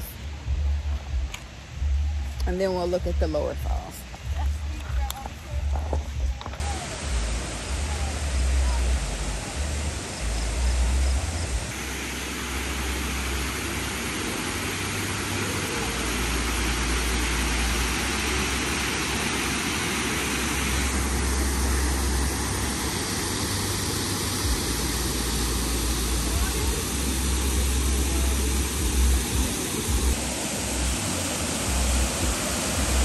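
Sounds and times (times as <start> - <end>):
waterfall rushing: 3.6 - 33.0.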